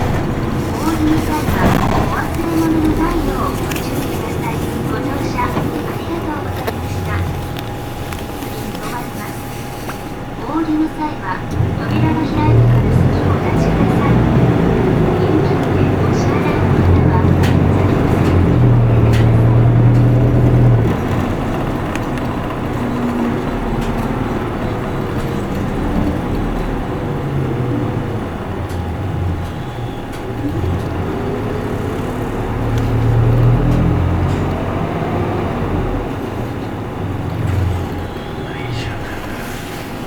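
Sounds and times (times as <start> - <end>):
bus diesel engine: 0.0 - 40.0.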